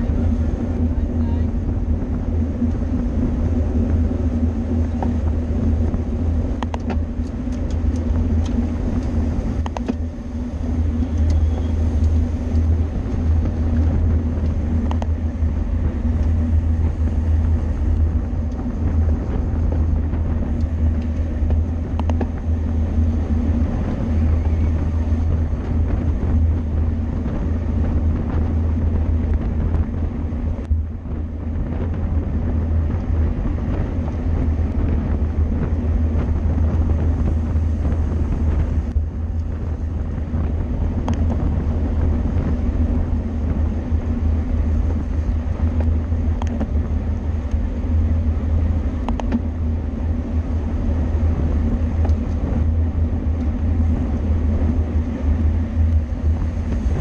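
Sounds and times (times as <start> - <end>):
bicycle road rumble: 0.0 - 57.0
steady low wind: 0.0 - 57.0.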